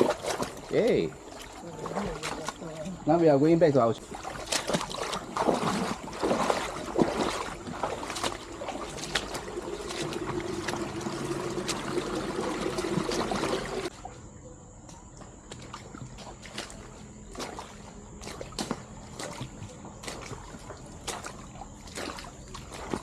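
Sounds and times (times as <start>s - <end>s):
trickling running water: 0.0s - 13.9s, 15.6s - 23.0s.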